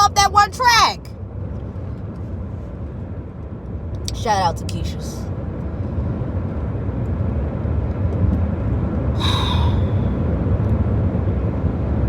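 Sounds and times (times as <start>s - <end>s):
low rumble: 1.1s - 12.0s.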